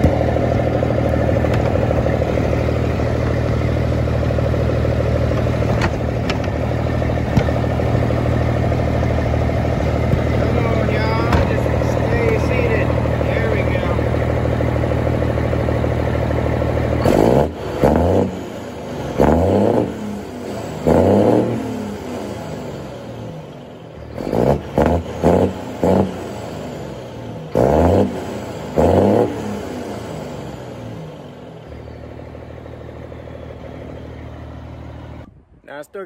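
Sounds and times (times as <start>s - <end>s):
diesel engine idling and revving: 0.0s - 36.0s.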